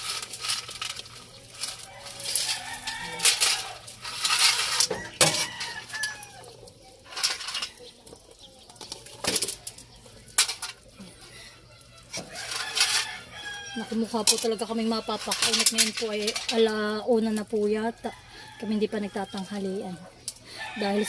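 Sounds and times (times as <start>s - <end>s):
chickens clucking: 1.0s - 21.0s.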